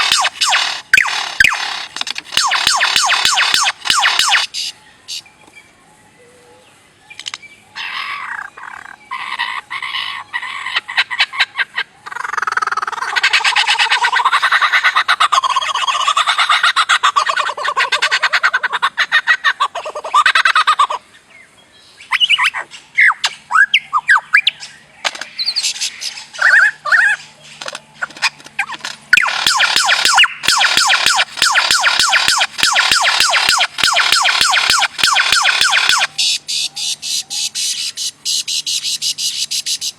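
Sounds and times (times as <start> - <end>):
birds squawking and chirping: 0.0 - 39.9.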